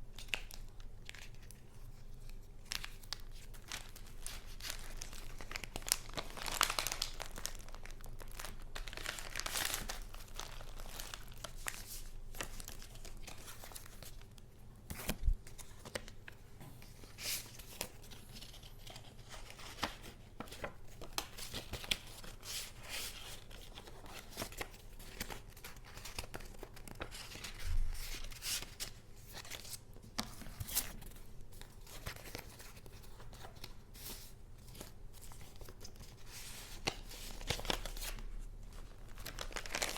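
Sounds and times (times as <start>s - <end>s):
paper crinkling and rustling: 0.1s - 39.9s.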